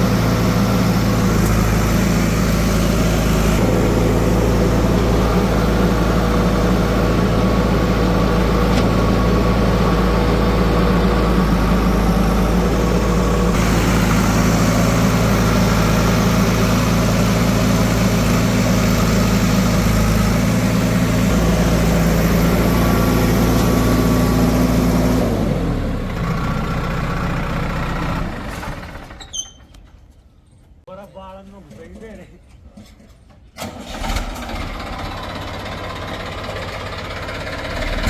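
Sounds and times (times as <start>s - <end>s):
heavy diesel engine running: 0.0s - 29.2s, 33.6s - 38.0s.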